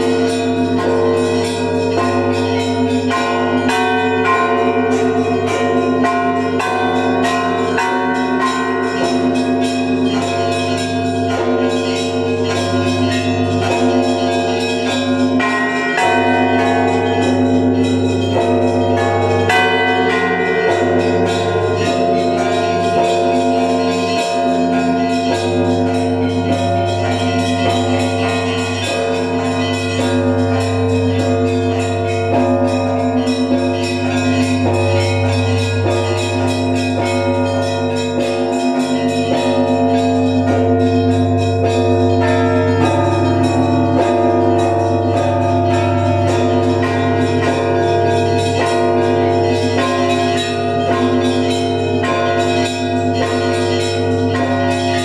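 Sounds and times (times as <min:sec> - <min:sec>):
low hum of large bells: 0:00.0 - 0:55.0
small church bells struck rapidly: 0:00.0 - 0:55.0.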